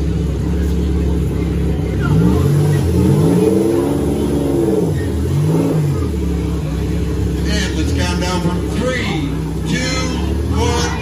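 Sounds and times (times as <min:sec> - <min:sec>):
car engines revving: 0:00.0 - 0:11.0
low engine rumble: 0:00.0 - 0:11.0.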